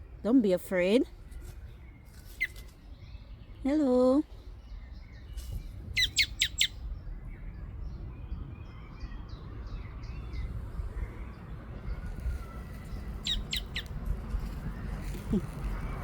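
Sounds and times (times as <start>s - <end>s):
small birds chirping: 0.0s - 16.0s
steady low rumble: 2.8s - 16.0s.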